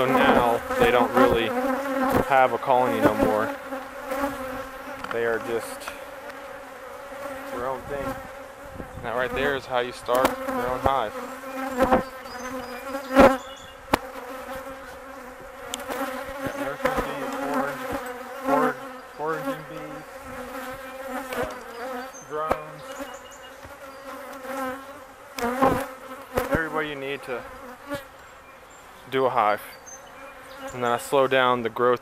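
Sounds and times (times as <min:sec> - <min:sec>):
honey bees buzzing: 0:00.0 - 0:31.8.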